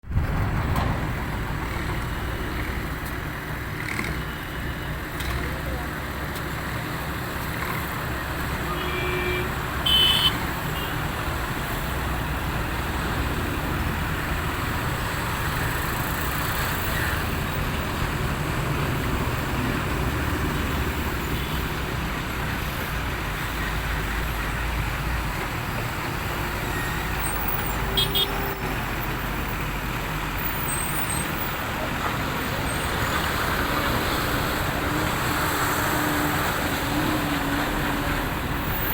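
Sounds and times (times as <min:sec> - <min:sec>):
road traffic: 0:00.0 - 0:38.9.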